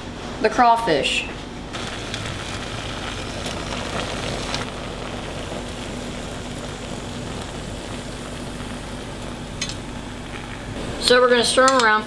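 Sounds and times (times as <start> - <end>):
faint hum: 0.9 - 11.6
water boiling and bubbling: 1.7 - 11.6.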